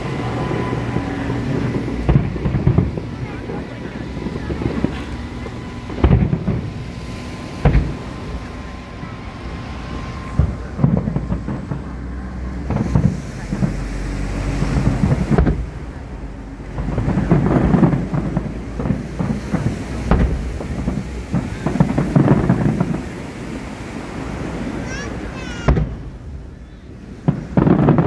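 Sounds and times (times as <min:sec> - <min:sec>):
fireworks booming and crackling: 0:00.0 - 0:28.0.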